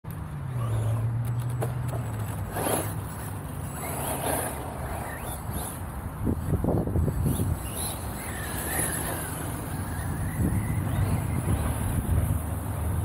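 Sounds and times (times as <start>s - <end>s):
rc truck motor and tyres: 0.1s - 13.0s.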